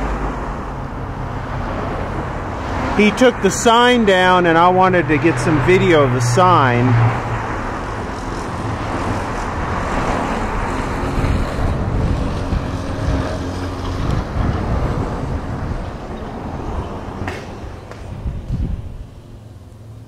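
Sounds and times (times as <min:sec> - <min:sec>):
motor vehicles passing: 0:00.0 - 0:20.0.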